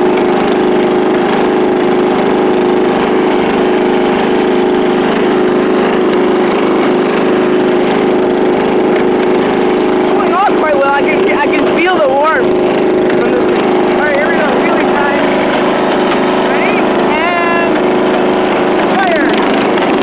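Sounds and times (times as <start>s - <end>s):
lawn mower engine running loud: 0.0s - 20.0s.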